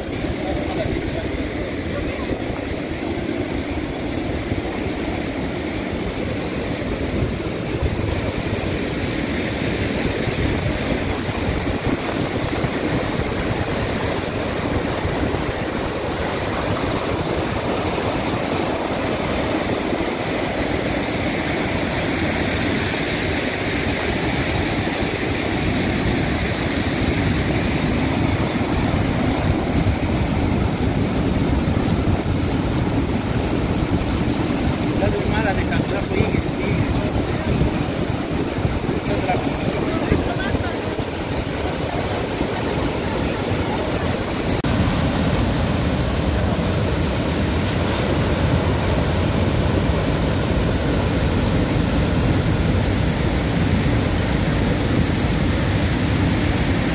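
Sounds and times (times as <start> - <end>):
floodwater rushing: 0.0 - 56.9.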